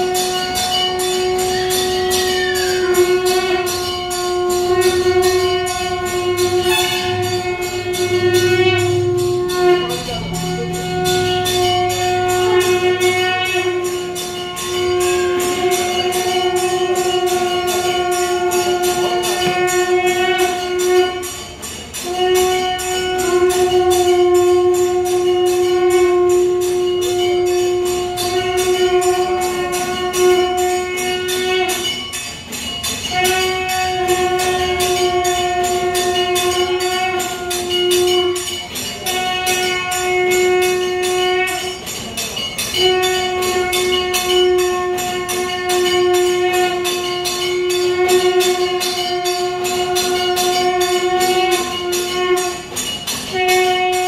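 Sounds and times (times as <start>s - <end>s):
steady horn-like blown tone: 0.0s - 32.2s, 33.0s - 54.0s
metallic percussion strikes: 0.0s - 54.0s.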